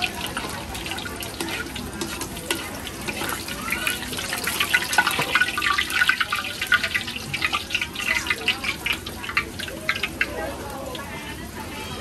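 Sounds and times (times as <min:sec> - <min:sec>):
rapid busy clattering: 0:00.0 - 0:12.0
water running and splashing: 0:00.0 - 0:12.0.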